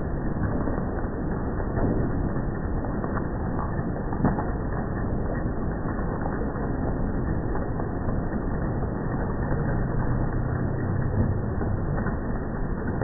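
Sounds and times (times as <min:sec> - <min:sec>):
low hum: 0:00.0 - 0:13.0
slowed hail and rain clatter: 0:00.0 - 0:13.0.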